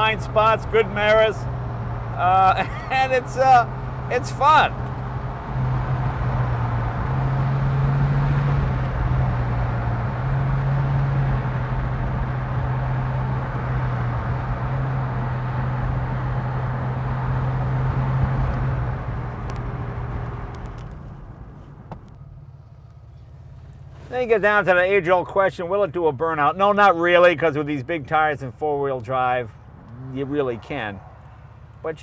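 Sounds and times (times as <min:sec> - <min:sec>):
pickup engine droning: 0:00.0 - 0:25.0, 0:26.0 - 0:32.0
tyre and road noise: 0:00.0 - 0:32.0.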